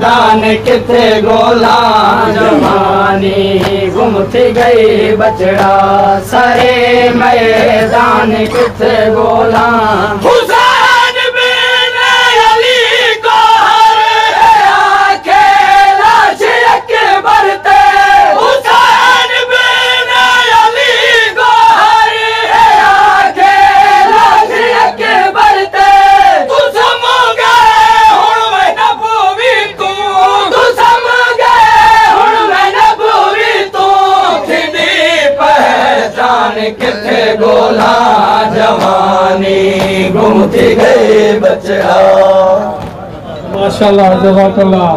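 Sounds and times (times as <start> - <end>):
crowd of men chanting a lament: 0.0 - 44.7.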